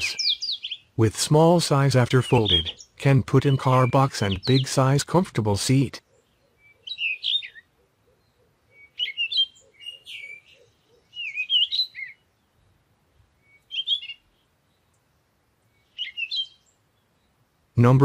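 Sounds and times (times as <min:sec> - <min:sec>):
songbird warbling: 0:00.0 - 0:01.0, 0:01.6 - 0:04.9, 0:06.0 - 0:12.8, 0:13.4 - 0:17.4.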